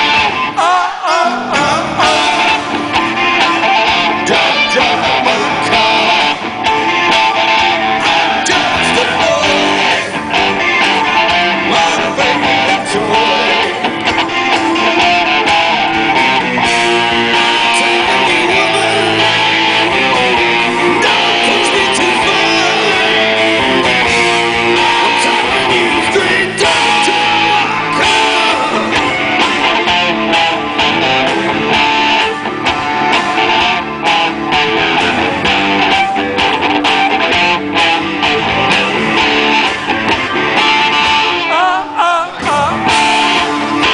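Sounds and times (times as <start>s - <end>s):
electric guitars: 0.0s - 43.9s
live rock band playing: 0.0s - 43.9s.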